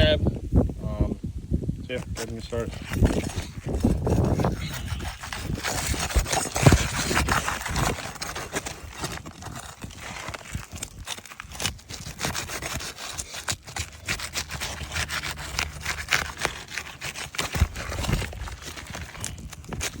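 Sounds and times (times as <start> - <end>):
metal tool scraping shingles: 2.1 - 20.0.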